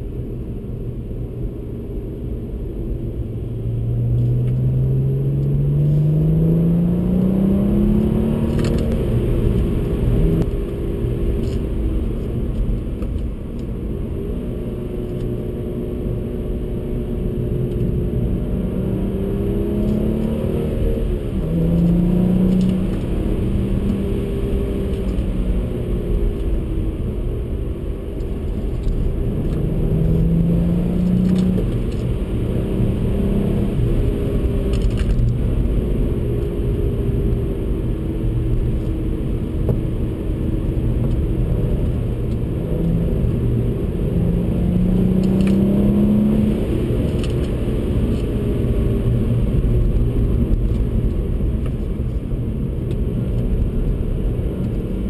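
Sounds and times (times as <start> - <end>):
tyre and road rumble: 2.7 - 16.2, 16.9 - 55.0
car engine revving: 3.1 - 55.0.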